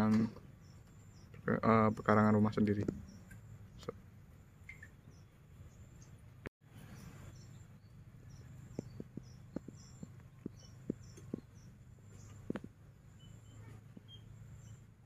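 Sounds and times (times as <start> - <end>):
high chirps of birds or insects: 0.0 - 15.0.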